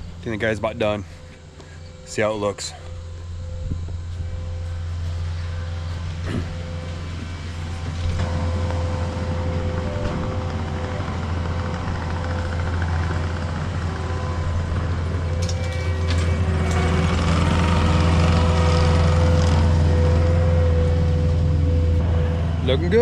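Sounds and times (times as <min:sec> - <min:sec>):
engine running with deep hum: 0:00.0 - 0:23.0.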